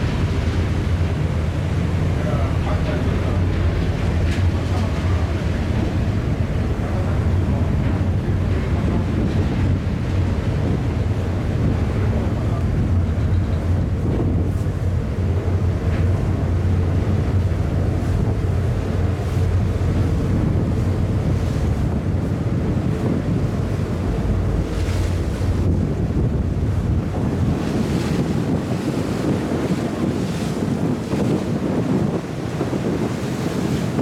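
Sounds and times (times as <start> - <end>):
low engine hum: 0.0 - 34.0
water rushing along hull: 0.0 - 34.0
wind buffeting microphone: 0.0 - 34.0.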